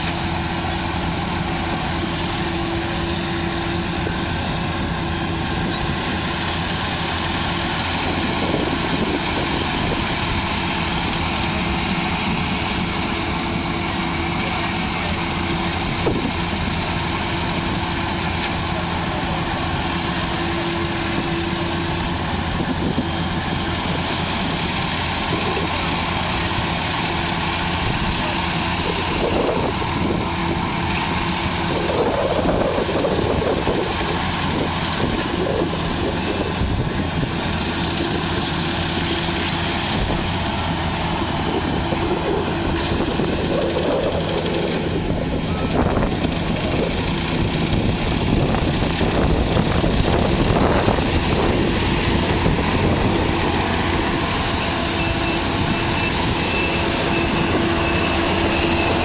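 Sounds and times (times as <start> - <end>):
harvesting machine engine hum: 0.0 - 59.0.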